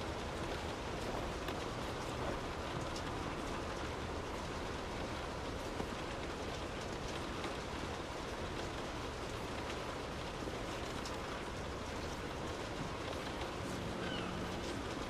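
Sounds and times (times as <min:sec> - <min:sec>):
raindrop ticks: 0:00.0 - 0:15.0
steady rain hiss: 0:00.0 - 0:15.0.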